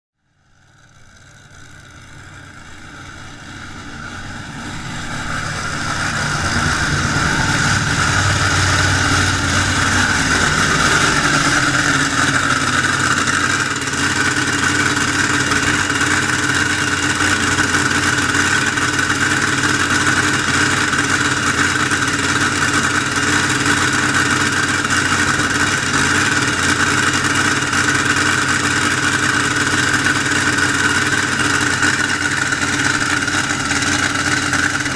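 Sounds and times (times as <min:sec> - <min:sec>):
boat engine idling: 0:00.2 - 0:34.9.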